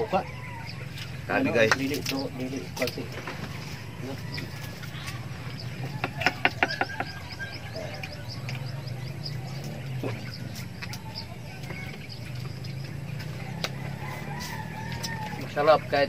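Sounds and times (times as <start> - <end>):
small bird chirping: 0.0 - 16.0.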